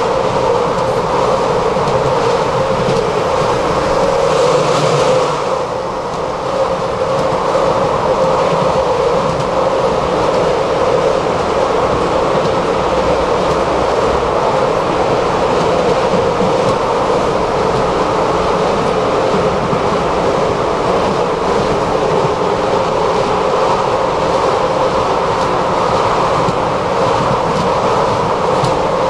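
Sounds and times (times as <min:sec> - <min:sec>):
tram running hum: 0:00.0 - 0:29.0
tram wheels rolling on rails: 0:00.0 - 0:29.0.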